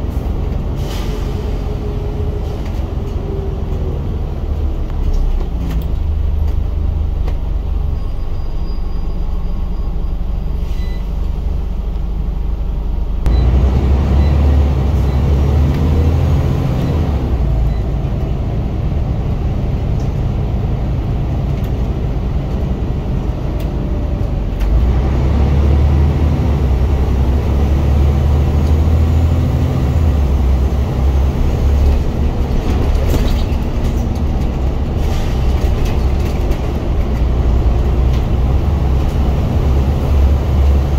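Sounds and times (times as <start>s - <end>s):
bus diesel engine revving: 0.0s - 7.9s, 11.2s - 40.9s.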